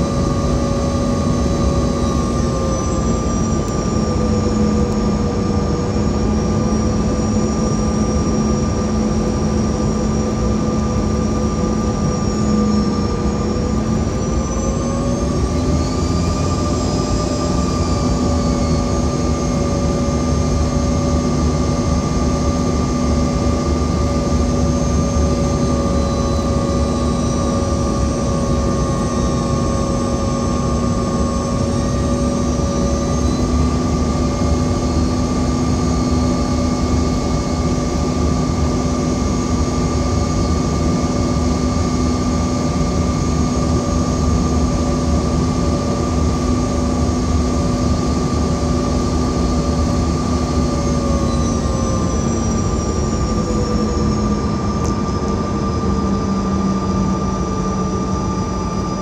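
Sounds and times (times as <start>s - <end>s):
jet engine and airflow roar: 0.0s - 59.0s
steady whining tones: 0.0s - 59.0s.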